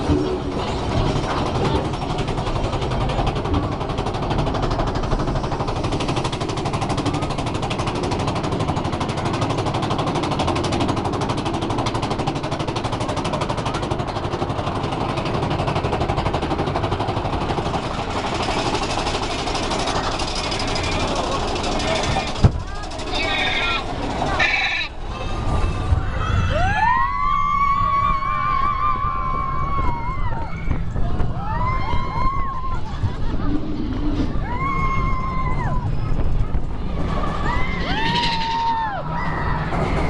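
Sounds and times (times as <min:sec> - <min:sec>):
roller coaster cars rattling: 0:00.0 - 0:40.0.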